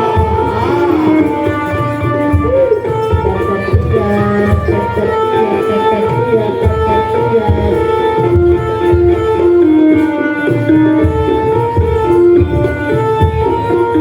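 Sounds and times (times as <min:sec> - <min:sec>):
hand drum strokes: 0:00.0 - 0:14.0
melody of held notes: 0:00.0 - 0:14.0.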